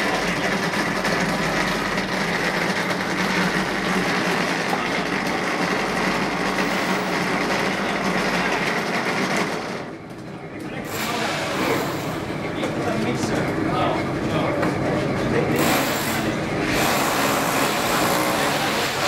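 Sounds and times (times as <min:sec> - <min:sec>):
rendering machine whirring: 0:00.0 - 0:19.0.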